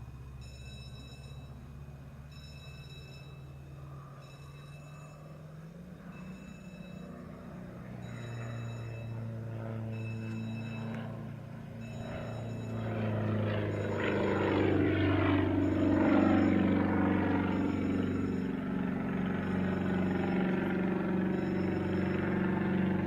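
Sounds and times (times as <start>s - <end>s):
propeller aircraft passing: 0.0s - 23.0s.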